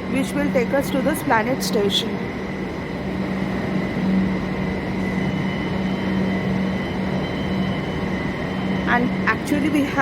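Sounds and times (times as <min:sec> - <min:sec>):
higher whine: 0:00.0 - 0:10.0
metro train hum: 0:00.0 - 0:10.0.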